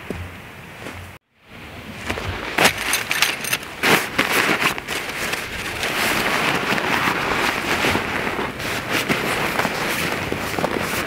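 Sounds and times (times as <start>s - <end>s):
tent fabric rustling: 2.0s - 11.0s.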